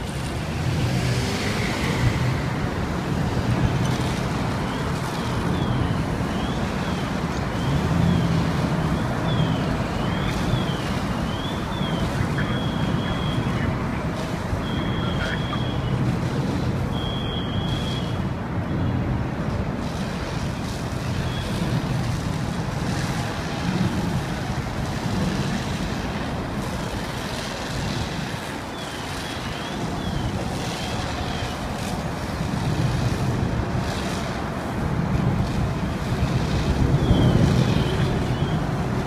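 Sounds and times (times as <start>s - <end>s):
vehicle engines rumbling: 0.0s - 39.0s
wind on microphone: 0.0s - 39.0s.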